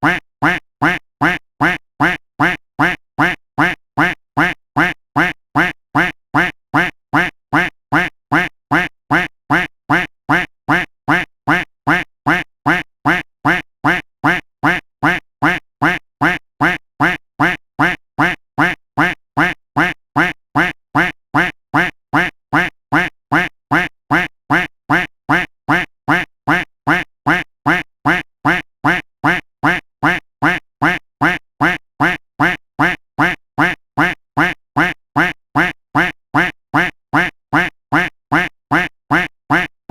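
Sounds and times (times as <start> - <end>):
duck quacking: 0.0 - 39.9.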